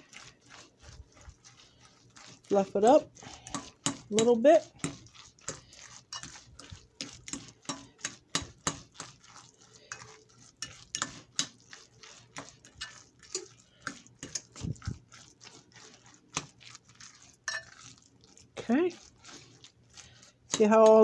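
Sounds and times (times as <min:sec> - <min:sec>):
fork scraping a dish: 0:00.0 - 0:21.0.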